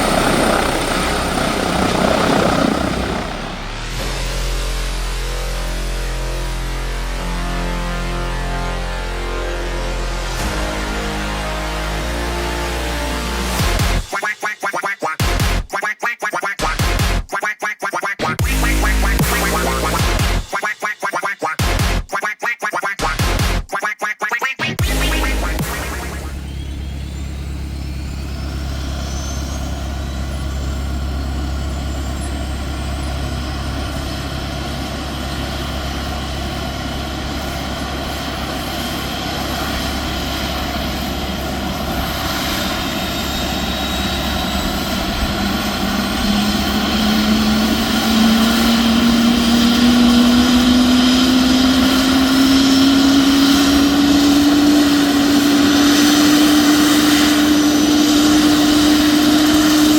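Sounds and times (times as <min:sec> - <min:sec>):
low rising engine tone: 0:00.0 - 0:14.1, 0:18.4 - 0:20.5, 0:24.8 - 0:59.9
helicopter turbine whine: 0:00.0 - 0:15.8, 0:18.4 - 0:22.0, 0:24.8 - 0:59.9.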